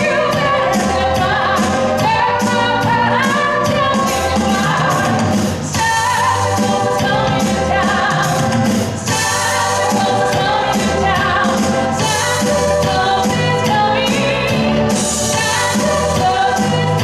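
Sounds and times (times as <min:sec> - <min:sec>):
music accompaniment with bass: 0:00.0 - 0:17.0
woman singing into microphone: 0:00.0 - 0:17.0.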